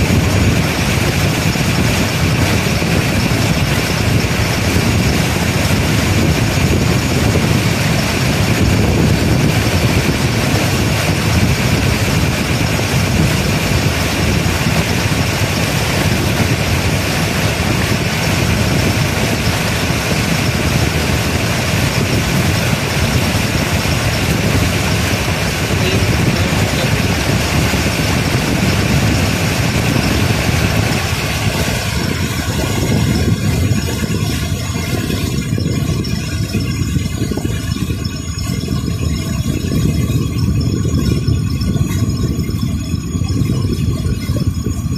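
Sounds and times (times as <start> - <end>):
boat motor running: 0.0 - 44.9.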